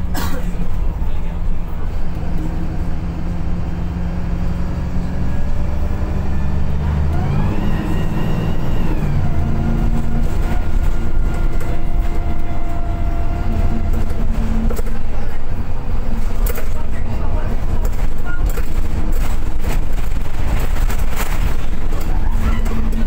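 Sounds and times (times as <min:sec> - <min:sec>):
bus engine drone and whine: 0:00.0 - 0:23.0.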